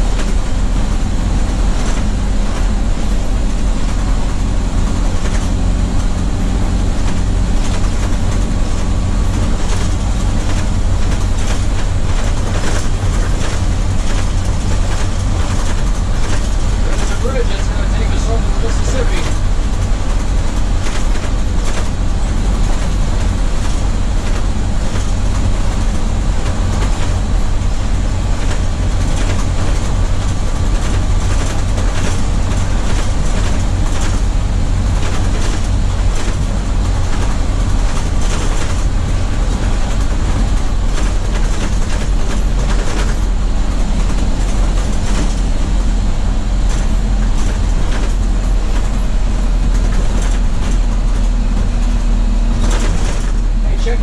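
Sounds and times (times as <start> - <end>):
bus engine and road drone: 0.0 - 54.0
rattles and clicks: 0.0 - 54.0.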